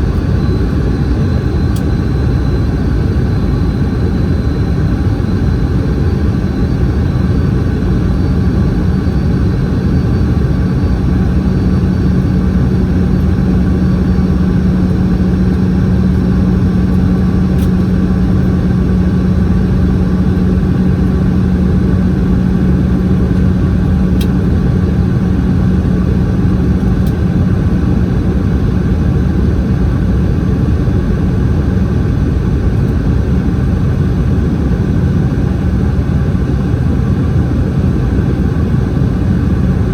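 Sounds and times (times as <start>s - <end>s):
steady low hum: 0.0s - 39.9s
turbofan engines: 0.0s - 39.9s.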